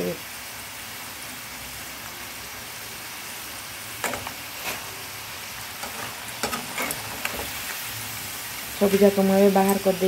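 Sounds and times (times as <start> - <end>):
fries sizzling in hot oil: 0.0 - 10.0.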